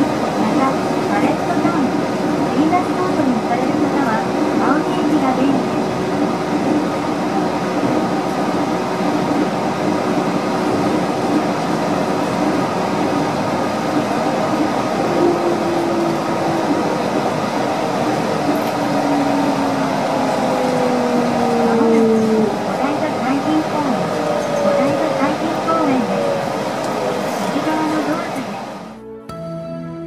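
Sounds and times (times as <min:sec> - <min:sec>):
train running noise: 0:00.0 - 0:29.0.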